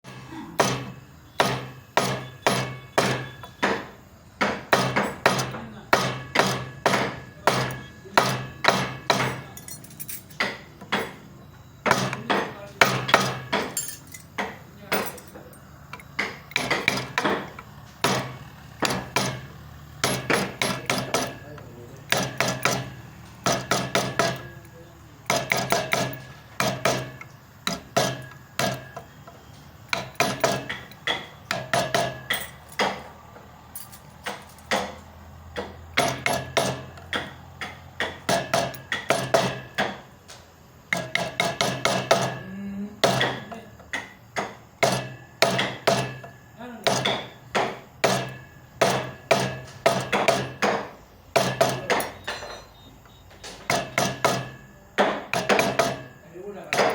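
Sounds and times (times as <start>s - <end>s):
hammer tapping chisel into wood: 0.6s - 9.6s, 11.8s - 33.1s, 35.6s - 52.7s, 53.4s - 56.9s.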